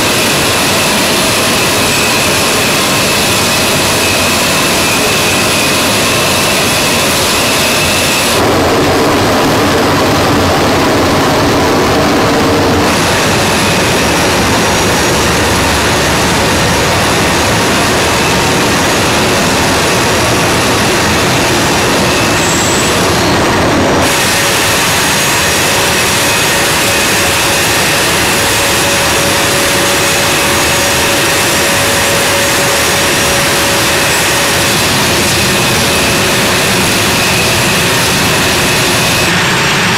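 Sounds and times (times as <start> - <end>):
jet engines running with turbine whine: 0.0 - 39.9.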